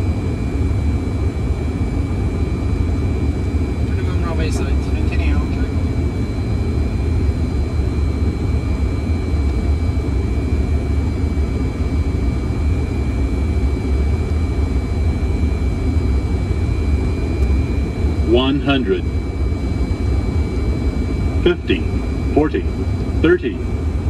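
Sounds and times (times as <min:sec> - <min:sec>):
low rumble of airflow and engines: 0:00.0 - 0:24.0.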